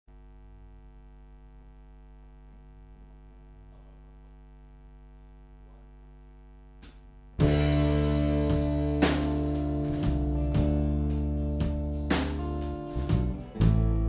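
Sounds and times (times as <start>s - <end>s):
electrical hum: 0.1s - 14.0s.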